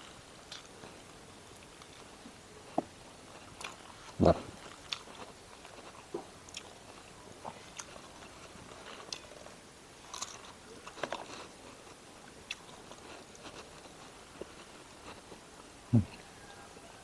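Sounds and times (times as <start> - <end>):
person chewing food: 0.4 - 16.2.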